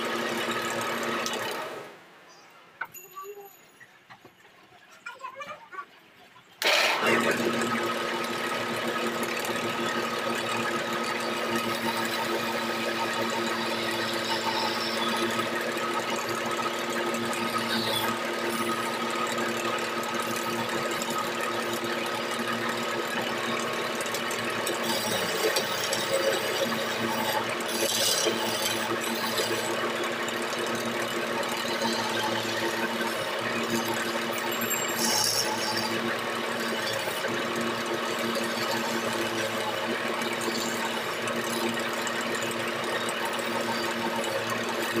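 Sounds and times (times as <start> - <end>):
wood lathe running: 0.0 - 2.0, 6.6 - 45.0
chisel scraping spinning wood: 7.1 - 45.0.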